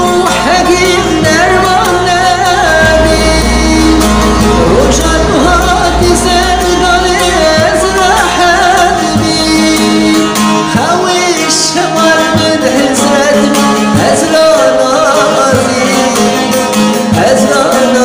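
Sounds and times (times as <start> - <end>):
instrumental accompaniment: 0.0 - 18.0
person singing ornamented vocals: 0.0 - 18.0.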